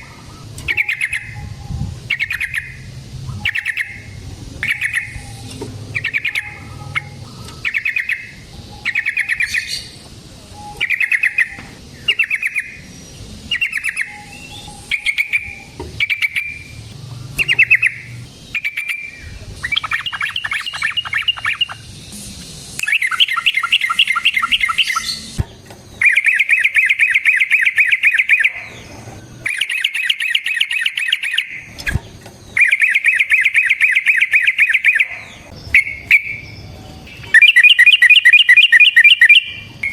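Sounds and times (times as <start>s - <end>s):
bulbul chattering and trilling: 0.0s - 39.9s.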